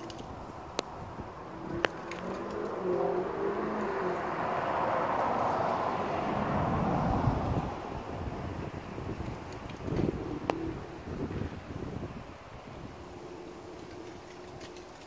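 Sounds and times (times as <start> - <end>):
road vehicle passing: 0.0 - 15.0.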